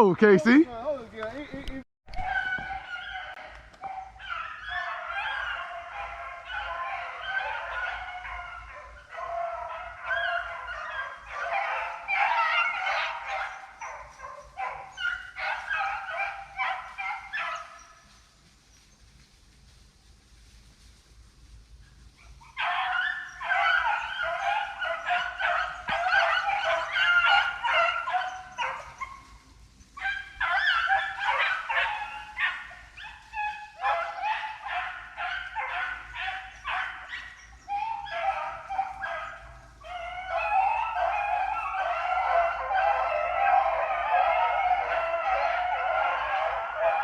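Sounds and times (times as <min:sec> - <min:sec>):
hounds baying and yelping: 0:02.1 - 0:19.7, 0:20.4 - 0:47.0.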